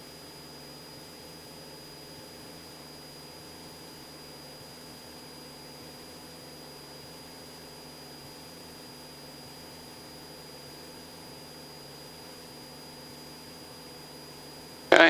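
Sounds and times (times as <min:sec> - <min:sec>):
faint propeller plane engine drone: 0:00.0 - 0:15.0.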